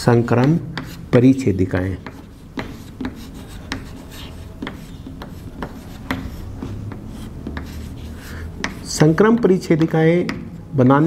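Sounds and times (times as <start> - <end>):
chalk tapping and scraping on chalkboard: 0.0 - 10.8.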